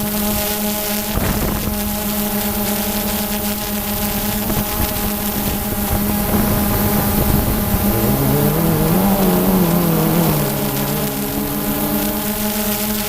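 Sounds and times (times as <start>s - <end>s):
quadcopter propellers humming: 0.0s - 13.0s
wind noise on microphone: 0.9s - 13.0s.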